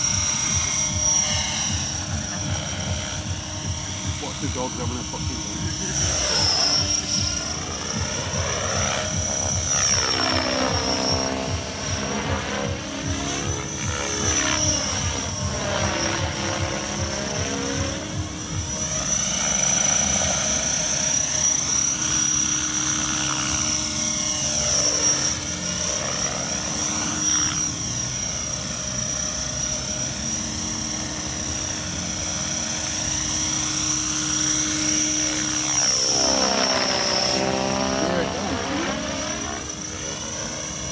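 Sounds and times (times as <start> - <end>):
model helicopter whining: 0.0 - 40.9.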